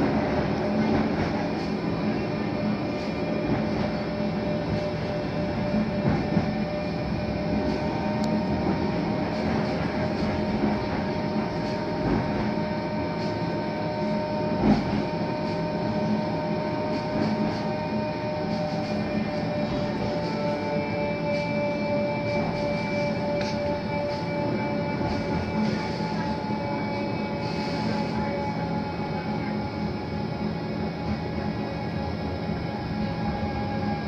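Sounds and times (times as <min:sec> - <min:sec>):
tram rolling rumble: 0:00.0 - 0:34.0.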